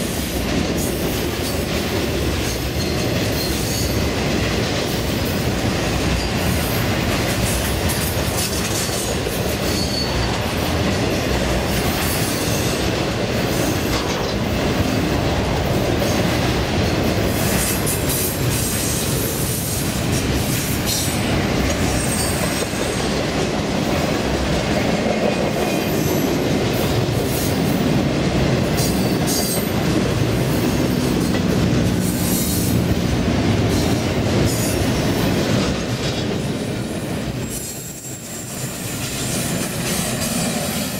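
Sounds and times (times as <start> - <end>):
clickety-clack over rail joints: 0.0 - 40.9
train wheels rumbling on rail: 0.0 - 40.9.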